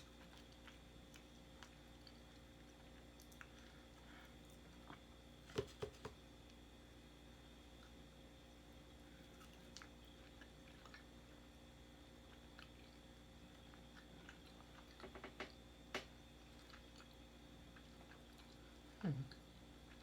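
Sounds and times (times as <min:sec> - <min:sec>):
faint chewing: 0:00.0 - 0:06.6, 0:08.6 - 0:20.0.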